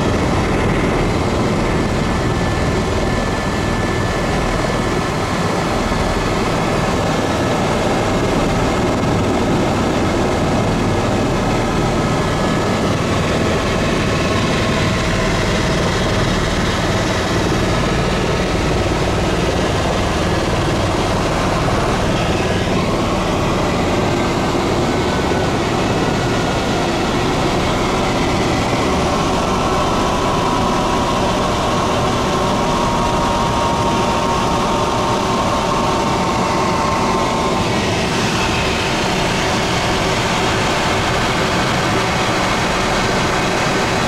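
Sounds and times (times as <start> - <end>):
helicopter engine and rotor drone: 0.0 - 44.0.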